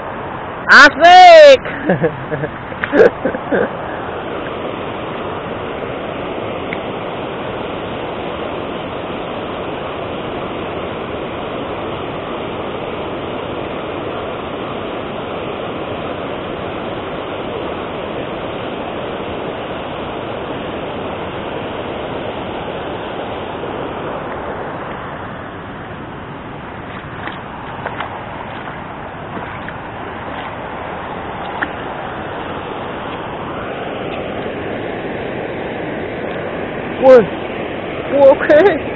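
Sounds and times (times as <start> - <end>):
water rushing over weir: 0.0 - 38.9.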